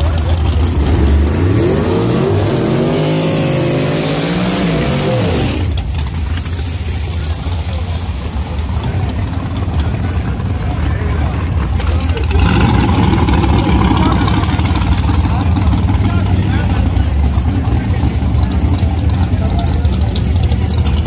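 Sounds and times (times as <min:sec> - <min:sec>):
drag car engine revving: 0:00.0 - 0:21.0
low engine rumble: 0:00.0 - 0:21.0.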